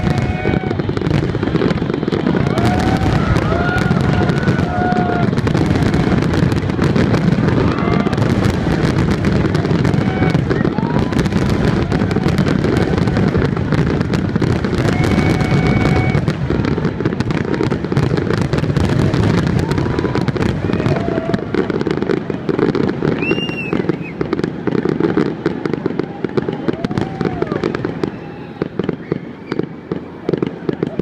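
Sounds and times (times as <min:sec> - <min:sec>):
fireworks bursting: 0:00.0 - 0:31.0
fireworks crackling: 0:00.0 - 0:31.0.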